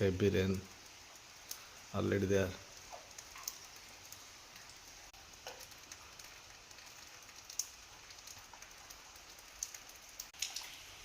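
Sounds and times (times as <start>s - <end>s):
sharp drips: 0.0s - 11.0s
steady rain hiss: 0.0s - 11.0s.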